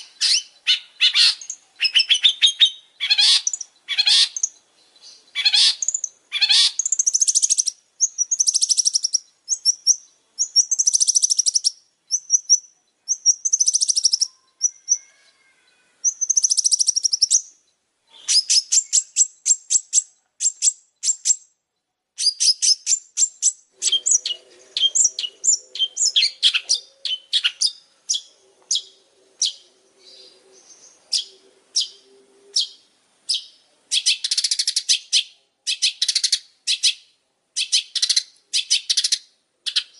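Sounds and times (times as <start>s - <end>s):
shrike singing buzzy chattering: 0.0s - 15.1s, 16.1s - 17.6s, 18.2s - 21.6s, 22.2s - 37.0s.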